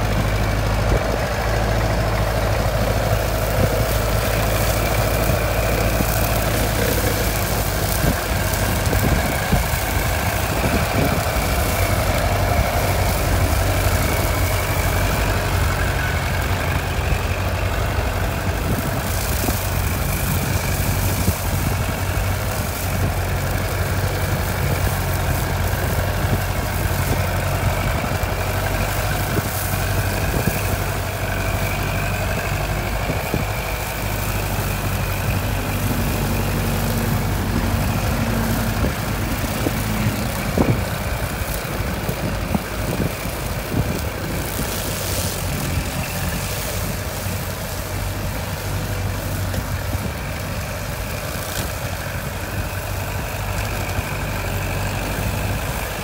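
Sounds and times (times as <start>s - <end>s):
mower whine: 0.0s - 56.0s
tractor diesel engine running: 0.0s - 56.0s.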